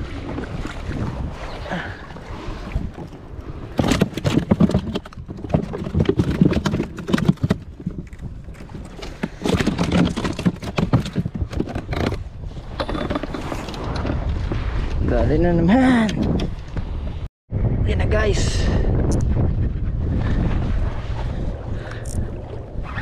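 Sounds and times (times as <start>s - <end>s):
low rumble of wind: 0.0s - 23.0s.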